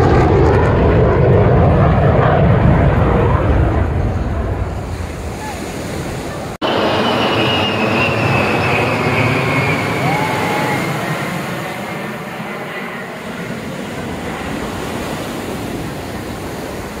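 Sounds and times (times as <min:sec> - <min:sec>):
jet engines flying overhead: 0:00.0 - 0:17.0.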